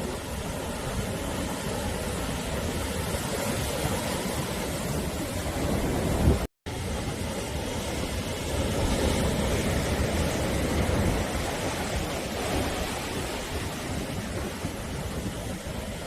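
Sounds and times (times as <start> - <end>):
waves breaking on shore: 0.0 - 16.0.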